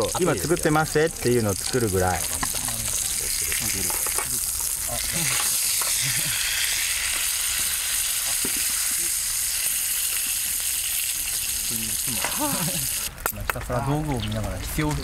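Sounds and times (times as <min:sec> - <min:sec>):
steak sizzling in a frying pan: 0:00.0 - 0:13.1.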